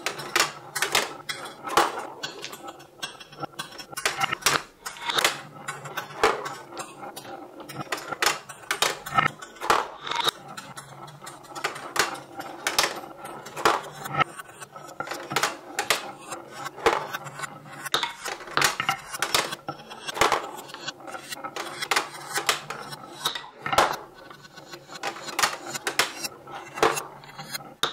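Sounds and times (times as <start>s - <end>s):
balls rolling down marble-run tracks: 0.0s - 27.9s
plastic blocks clicking: 0.0s - 27.9s.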